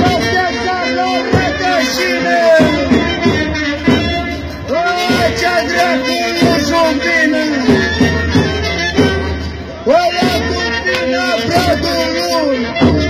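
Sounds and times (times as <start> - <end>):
drum beats: 0.0 - 13.0
high folk melody: 0.0 - 13.0.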